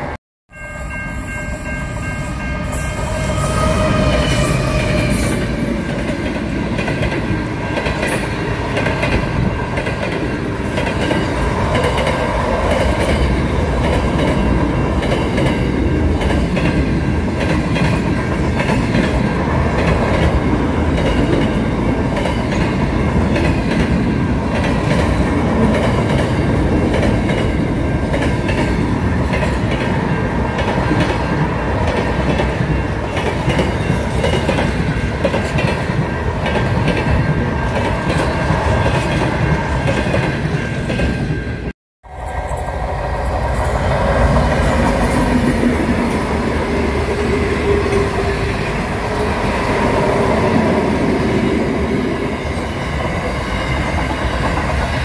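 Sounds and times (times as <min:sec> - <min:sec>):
freight train rumble: 0:00.9 - 0:55.0.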